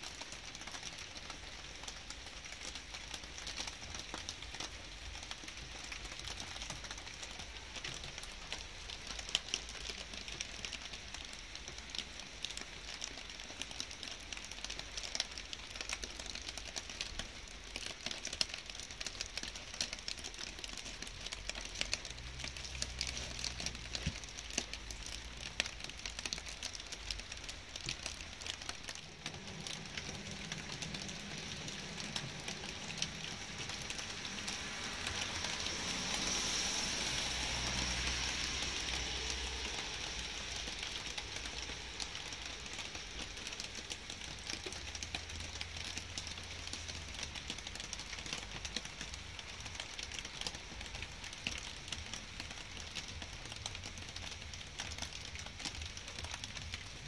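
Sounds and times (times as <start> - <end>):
light rain hiss: 0.0 - 57.0
raindrops ticking: 0.0 - 57.0.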